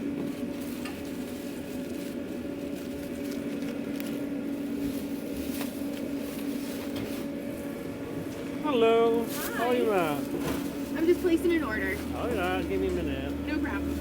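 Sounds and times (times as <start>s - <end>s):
steady two-tone machine hum: 0.0s - 14.0s.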